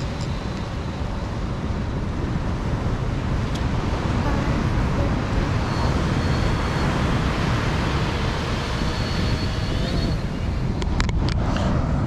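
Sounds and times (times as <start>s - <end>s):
drone motors whining: 0.0s - 11.8s
wind on microphone: 0.0s - 12.0s.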